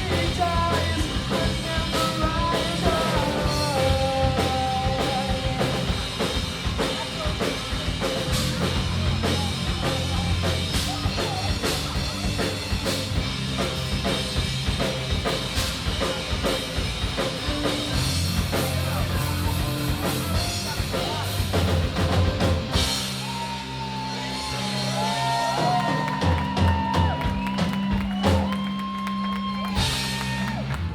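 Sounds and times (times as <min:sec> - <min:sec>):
dense drumming: 0:00.0 - 0:28.8
rock band playing loudly: 0:00.0 - 0:30.9.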